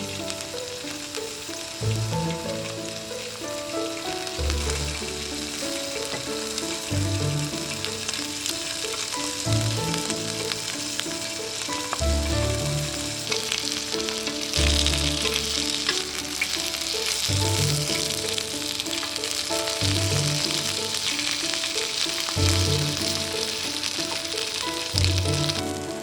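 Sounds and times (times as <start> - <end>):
food sizzling on griddle: 0.0 - 26.0.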